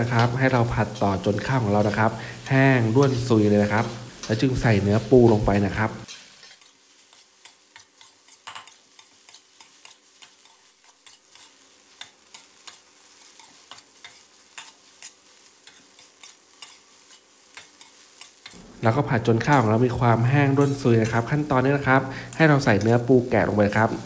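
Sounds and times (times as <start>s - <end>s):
light sizzle: 0.0s - 24.0s
metal spatula scraping a wok: 1.3s - 24.0s.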